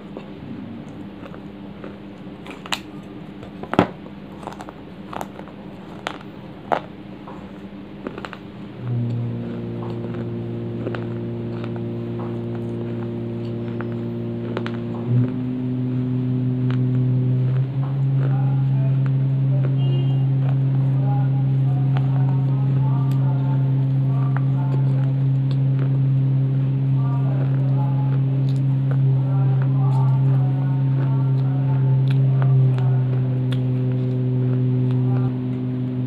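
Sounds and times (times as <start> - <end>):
dry clay crunching when chewed: 0.0 - 36.0
low mechanical hum: 0.0 - 36.0.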